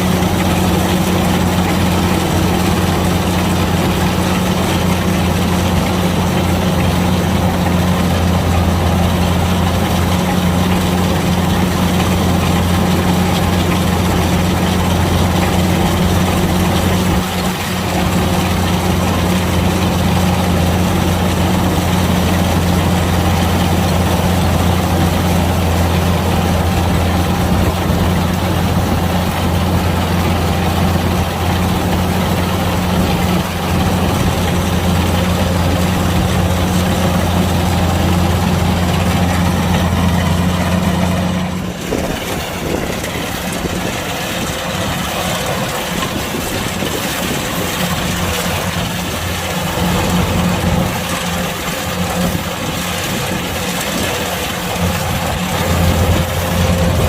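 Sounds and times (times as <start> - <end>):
broad mechanical noise: 0.0 - 57.0
low engine drone: 0.0 - 57.0.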